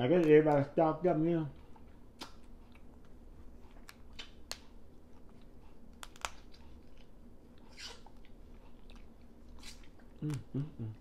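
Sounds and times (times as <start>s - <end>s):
person chewing: 1.6s - 11.0s.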